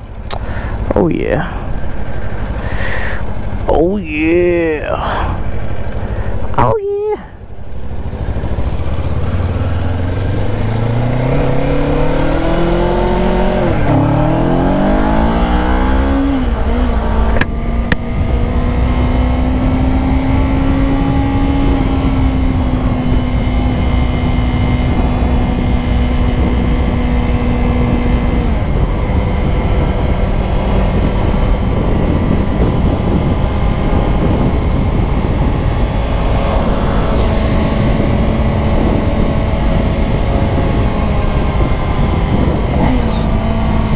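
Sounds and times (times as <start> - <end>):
low wind rumble: 0.0 - 43.9
motorcycle engine accelerating: 1.6 - 43.9.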